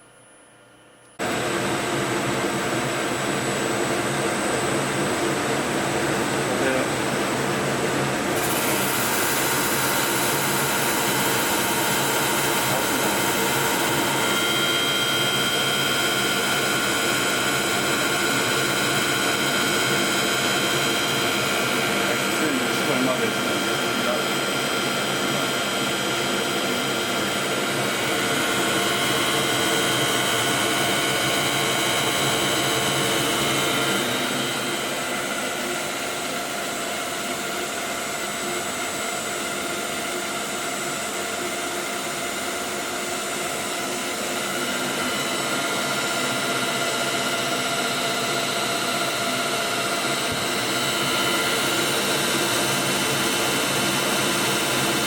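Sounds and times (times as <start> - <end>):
steady whining tones: 1.1 - 40.6, 42.2 - 55.0
power tool whirring: 8.1 - 55.0.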